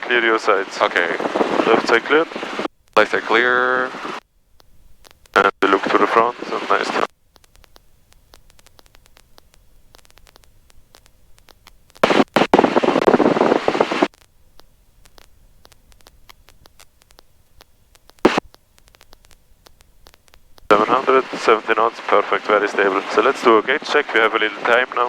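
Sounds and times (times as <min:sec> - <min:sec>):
faint static: 0:00.0 - 0:25.0
noise bursts: 0:00.0 - 0:25.0
crackling clicks: 0:00.3 - 0:25.0.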